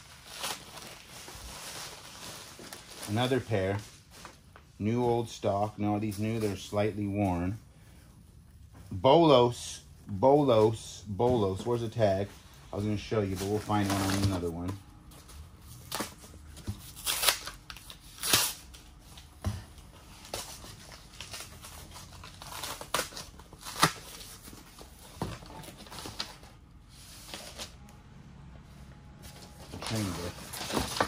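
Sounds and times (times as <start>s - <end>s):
cardboard and packaging rustling: 0.0s - 7.6s, 10.4s - 27.8s, 29.2s - 31.0s.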